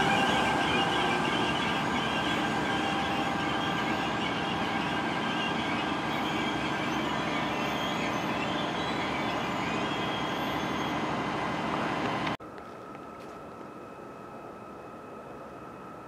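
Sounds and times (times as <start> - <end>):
steady whining tones: 0.0 - 16.0
train wheels rumbling on rails: 0.0 - 16.0.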